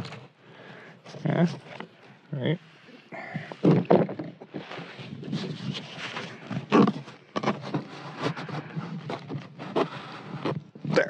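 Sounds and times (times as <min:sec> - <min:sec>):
cardboard and plastic tube rustling: 0:00.0 - 0:02.0, 0:03.2 - 0:11.0.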